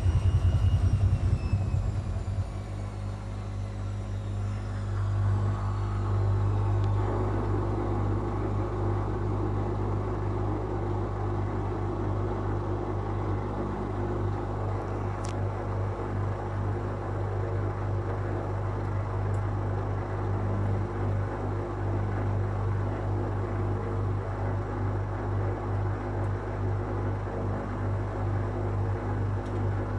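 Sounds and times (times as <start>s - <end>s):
washing machine spinning: 0.0s - 29.9s.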